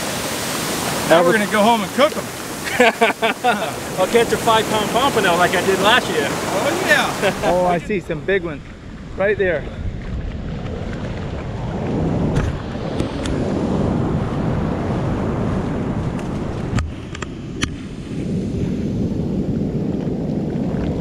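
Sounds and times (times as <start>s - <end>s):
ocean surf washing: 0.0s - 21.0s
wind buffeting microphone: 0.0s - 21.0s.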